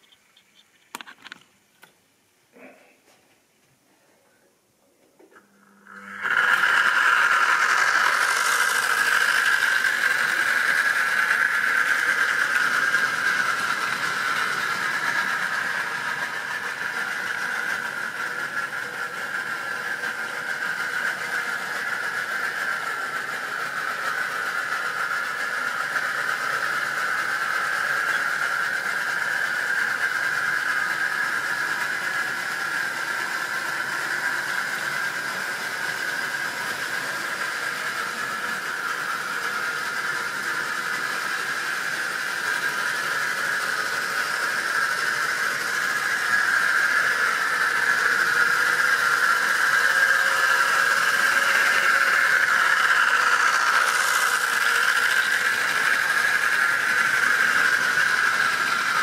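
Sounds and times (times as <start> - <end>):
model train motor whirring: 5.3 - 59.0.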